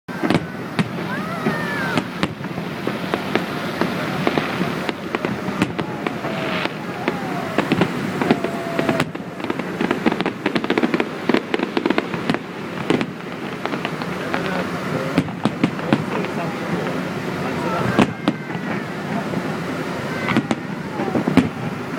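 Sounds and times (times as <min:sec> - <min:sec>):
continuous rumbling: 0:00.1 - 0:21.9
fireworks bangs and crackles: 0:00.1 - 0:21.9.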